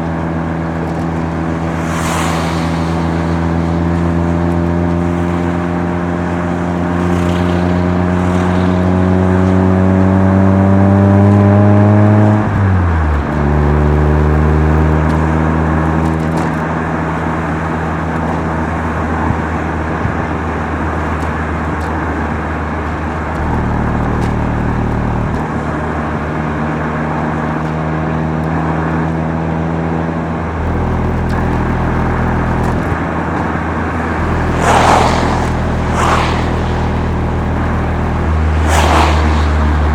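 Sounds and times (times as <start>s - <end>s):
rotary engine revving: 0.0s - 27.6s, 30.0s - 39.9s.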